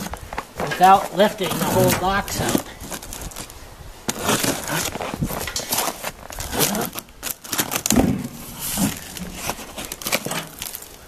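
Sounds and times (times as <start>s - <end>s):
cardboard box being torn open: 0.0s - 11.0s.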